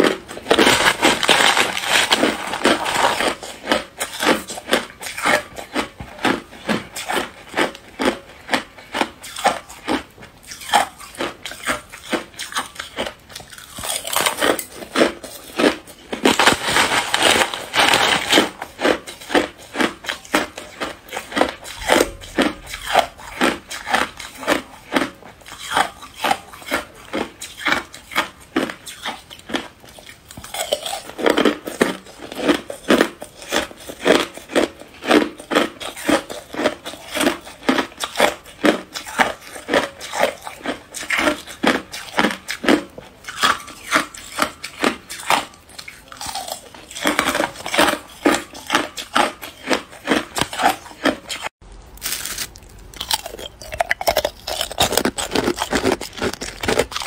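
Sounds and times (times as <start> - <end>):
ice crunching when chewed: 0.0 - 57.0.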